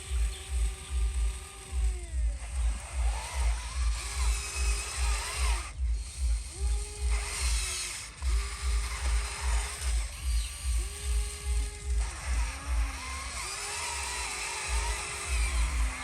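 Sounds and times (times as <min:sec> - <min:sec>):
background music with bass beat: 0:00.0 - 0:16.0
small electric motors whirring: 0:00.0 - 0:16.0.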